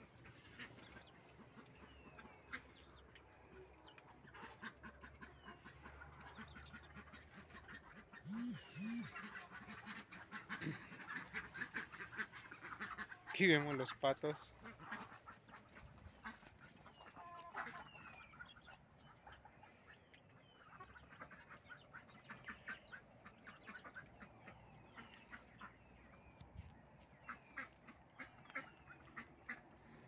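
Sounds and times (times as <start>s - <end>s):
chickens calling: 0.0s - 30.0s
ducks quacking: 0.0s - 30.0s.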